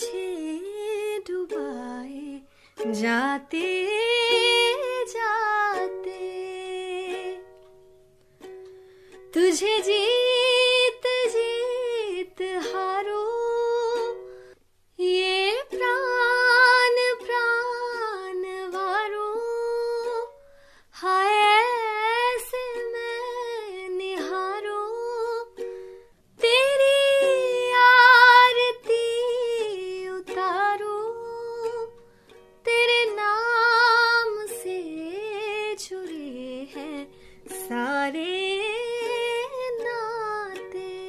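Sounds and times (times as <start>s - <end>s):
woman singing: 0.0s - 7.6s, 9.3s - 14.3s, 14.9s - 25.6s, 26.4s - 32.0s, 32.6s - 41.0s
ukulele accompaniment: 0.0s - 41.0s.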